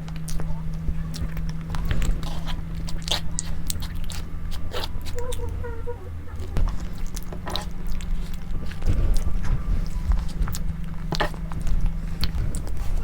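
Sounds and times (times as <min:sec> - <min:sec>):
chewing with crisp crunches: 0:00.0 - 0:13.0
steady low hum: 0:00.0 - 0:13.0.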